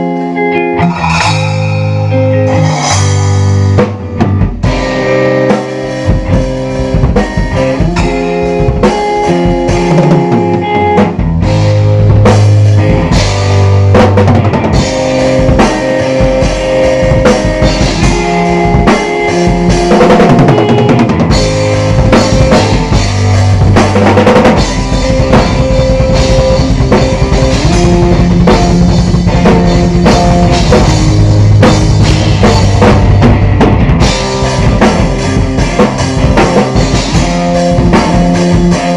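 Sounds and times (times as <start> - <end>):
electric guitar: 0.0 - 38.9
bass drum: 0.8 - 38.9.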